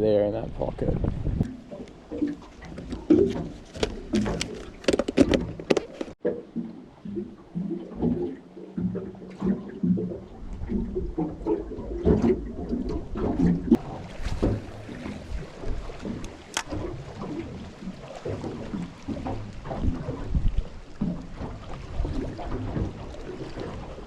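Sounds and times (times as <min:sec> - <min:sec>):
water lapping against boat hull: 0:00.0 - 0:24.0.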